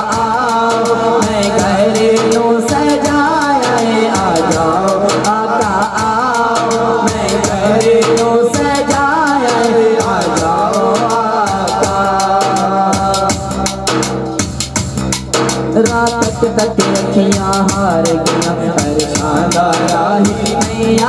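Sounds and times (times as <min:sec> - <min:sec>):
man singing through microphone: 0:00.0 - 0:14.1, 0:15.7 - 0:21.0
instrumental accompaniment: 0:00.0 - 0:21.0
steady percussion beat: 0:00.0 - 0:21.0.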